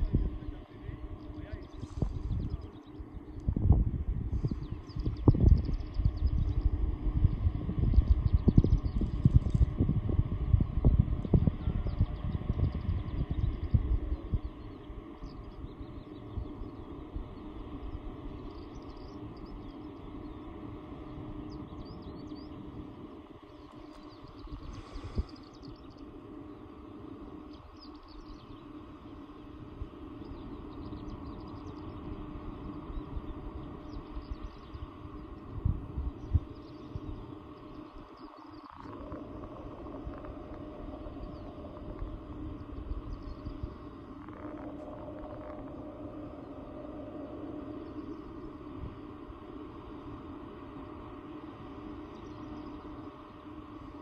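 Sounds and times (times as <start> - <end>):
wind buffeting microphone: 0.0 - 28.8, 29.4 - 54.0
distant jet drone: 0.0 - 54.0
small birds chirping: 0.0 - 54.0.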